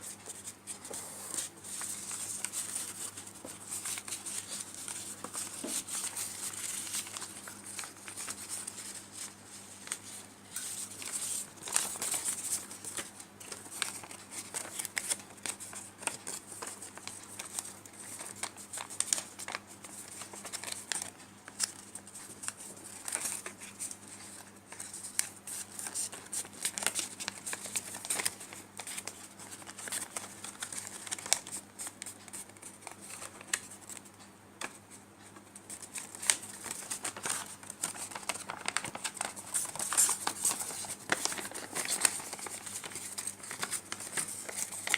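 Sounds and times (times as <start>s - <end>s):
paper crackles and taps: 0.0s - 44.9s
paper rustling and crinkling: 0.0s - 44.9s.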